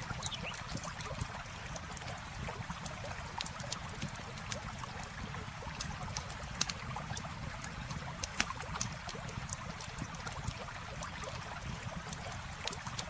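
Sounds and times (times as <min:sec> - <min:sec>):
campfire crackling and popping: 0:00.0 - 0:13.0
flowing river water: 0:00.0 - 0:13.0.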